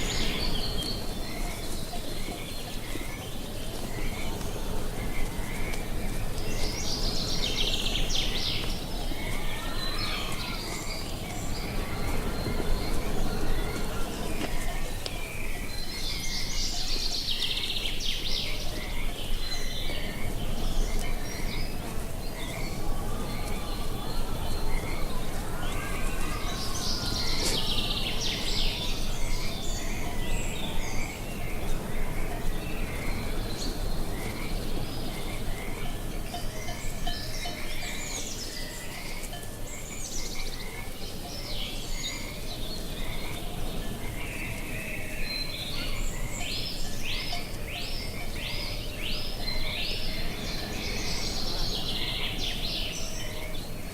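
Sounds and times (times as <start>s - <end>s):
low wind rumble: 0.0s - 53.9s
small birds chirping: 0.0s - 53.9s.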